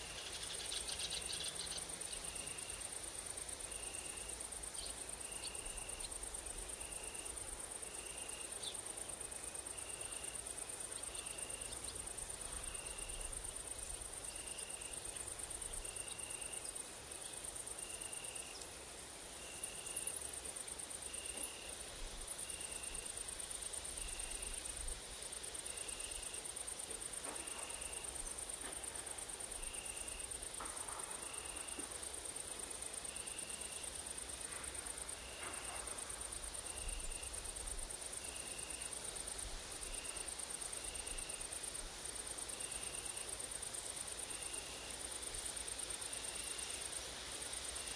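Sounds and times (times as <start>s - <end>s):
grasshoppers and crickets shrilling: 0.0s - 47.9s.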